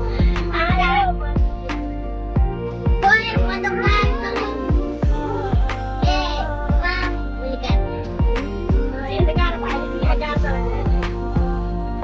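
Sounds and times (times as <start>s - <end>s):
deep drum beat: 0.0s - 12.0s
pitched melody: 0.0s - 12.0s.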